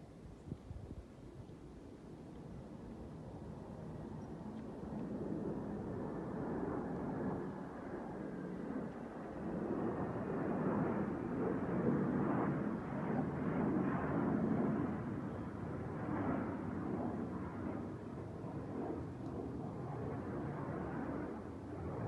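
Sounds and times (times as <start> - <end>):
jet aircraft roar: 3.4 - 22.0.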